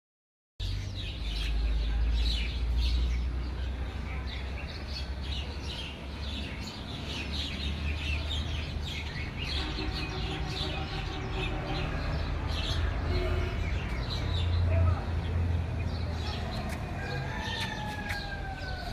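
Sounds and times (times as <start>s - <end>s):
small birds chirping: 0.6s - 18.9s.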